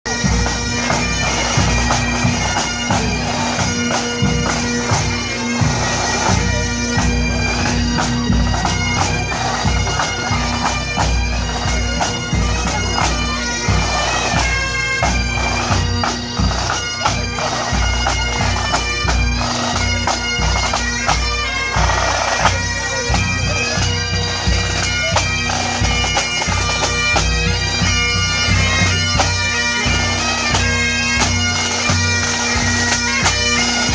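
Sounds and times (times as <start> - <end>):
bagpipes playing a tune: 0.1 - 33.9.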